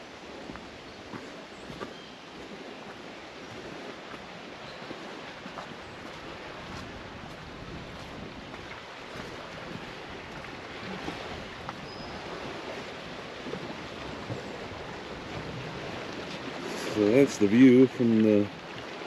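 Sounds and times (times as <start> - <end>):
waves on a shore: 0.0 - 19.0.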